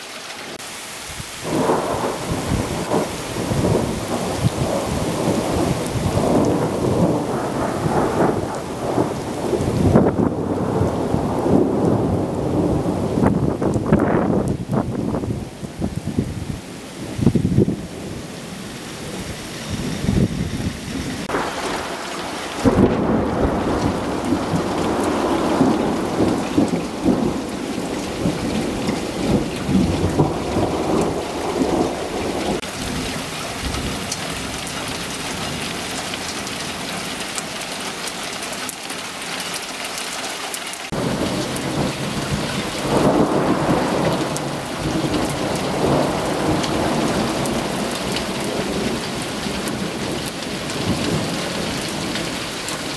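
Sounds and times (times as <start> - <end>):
heavy rain: 0.0 - 52.9
thunder rumbling: 0.5 - 18.3, 19.1 - 37.1, 40.9 - 52.9.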